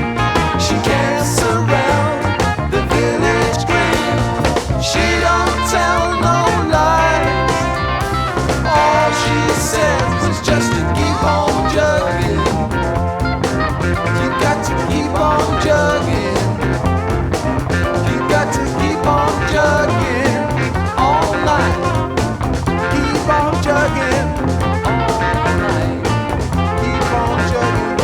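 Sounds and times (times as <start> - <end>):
bass guitar: 0.0 - 28.0
drums: 0.0 - 28.0
electric guitar lead line: 0.0 - 28.0.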